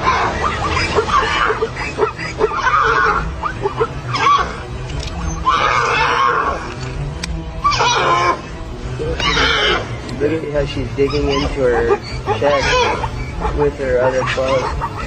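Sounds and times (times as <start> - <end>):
background music: 0.0 - 15.0
wild animal harsh calls: 0.0 - 15.0.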